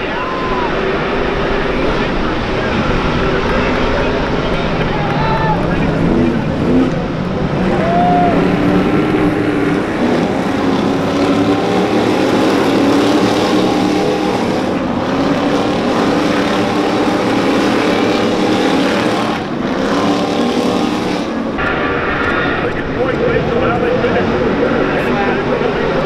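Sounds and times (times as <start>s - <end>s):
truck engines racing past: 0.0s - 26.0s.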